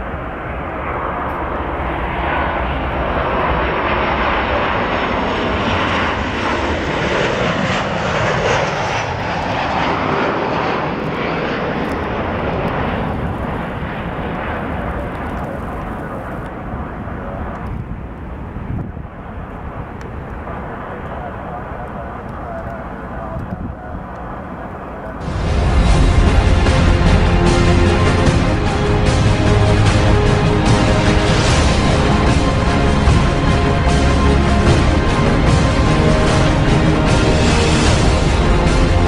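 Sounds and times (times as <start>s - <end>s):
jet airliner roar: 0.0s - 39.0s.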